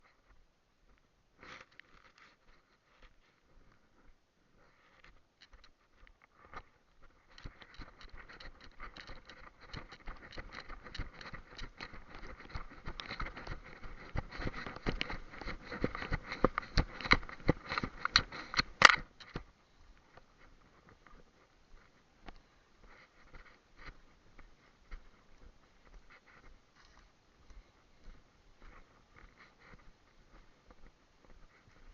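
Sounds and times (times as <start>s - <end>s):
close rustling and crackling: 0.0s - 31.9s.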